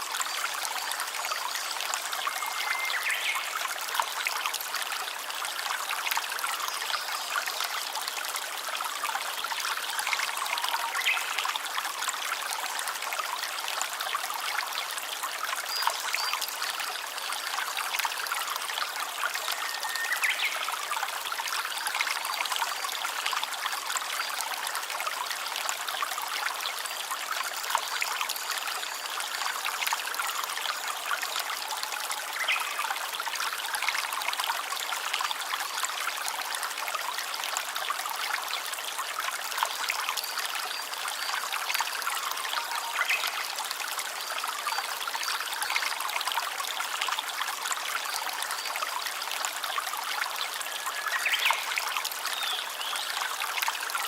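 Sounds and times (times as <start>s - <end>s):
small stream trickling: 0.0s - 54.0s.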